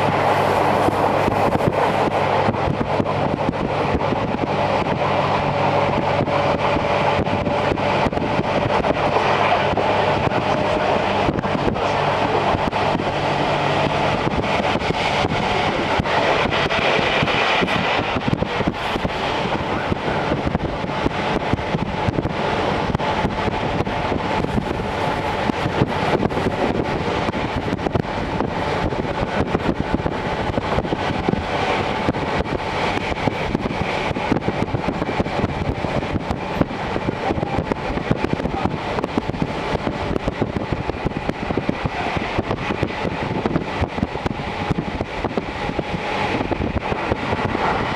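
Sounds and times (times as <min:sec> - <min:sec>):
rush of wind: 0:00.0 - 0:47.9
train wheels on rails: 0:00.0 - 0:47.9.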